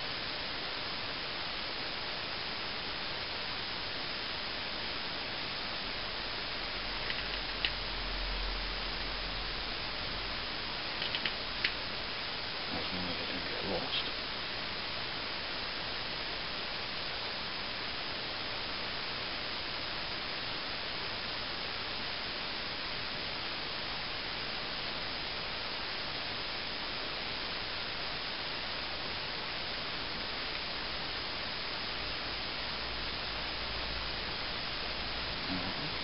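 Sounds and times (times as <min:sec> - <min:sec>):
steady static hiss: 0:00.0 - 0:36.0.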